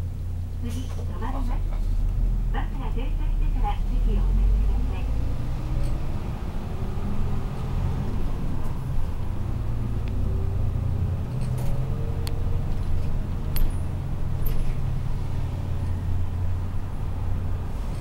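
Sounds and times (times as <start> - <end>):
bus diesel engine droning: 0.0 - 18.0
bus interior rattles and clicks: 0.0 - 18.0.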